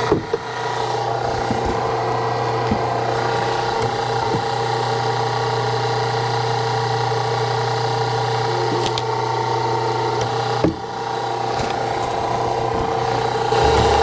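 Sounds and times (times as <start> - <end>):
hydraulic log splitter humming: 0.0 - 14.0.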